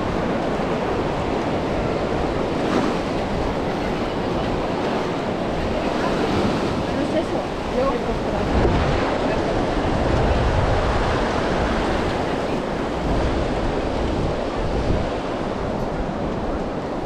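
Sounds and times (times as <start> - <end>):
sea waves on beach: 0.0 - 17.0
wind buffeting microphone: 0.0 - 17.0.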